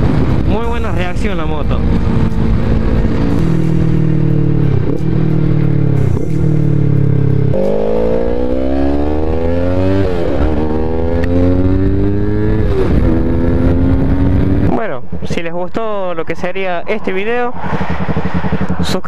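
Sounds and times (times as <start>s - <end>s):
motorcycle engine revving: 0.0s - 15.5s, 17.2s - 19.0s.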